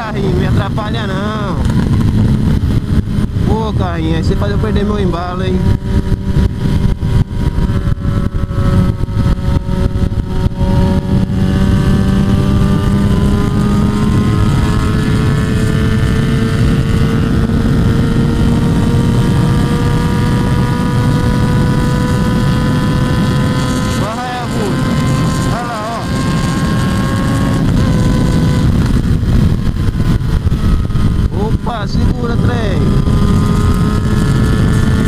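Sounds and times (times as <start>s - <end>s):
motorcycle engine accelerating: 0.0s - 35.0s
wind buffeting microphone: 0.0s - 35.0s.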